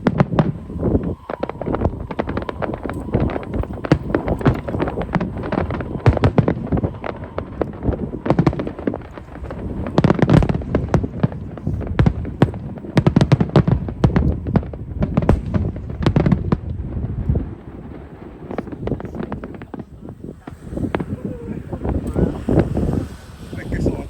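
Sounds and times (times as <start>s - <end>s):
fireworks bangs and crackles: 0.0s - 24.0s
low rumble: 0.0s - 24.0s.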